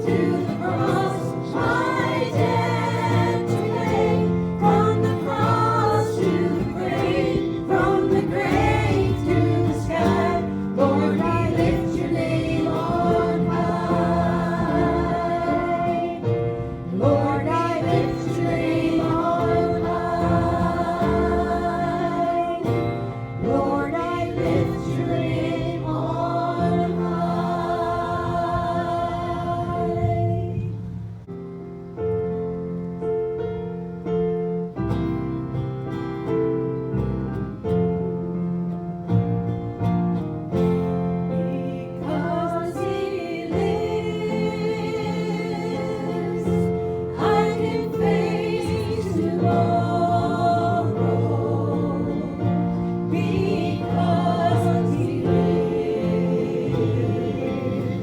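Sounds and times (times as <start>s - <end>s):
group singing a gospel hymn: 0.0s - 31.0s, 40.5s - 58.0s
instrumental accompaniment: 0.0s - 58.0s.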